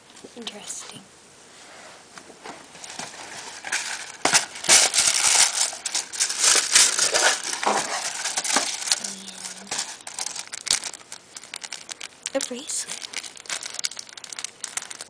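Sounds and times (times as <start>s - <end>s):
tissue paper crinkling: 2.4s - 15.0s.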